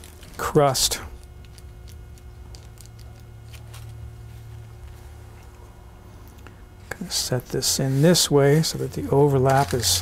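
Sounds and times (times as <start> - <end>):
dough sheet crinkling: 0.0 - 5.6, 7.4 - 10.0
steady low hum: 0.0 - 10.0.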